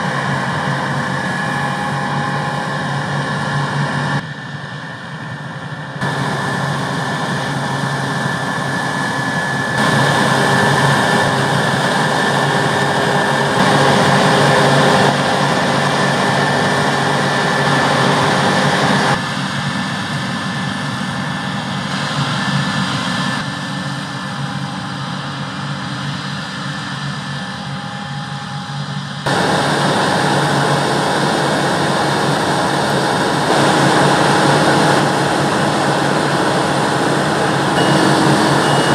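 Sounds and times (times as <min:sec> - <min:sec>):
faint high whine: 0:00.0 - 0:19.2, 0:21.5 - 0:38.9
combine harvester and tractors droning: 0:00.0 - 0:38.9.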